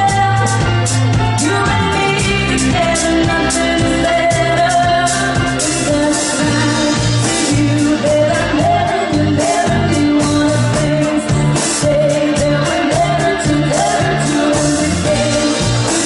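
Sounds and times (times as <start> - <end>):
bass notes: 0.0 - 16.0
person singing: 0.0 - 16.0.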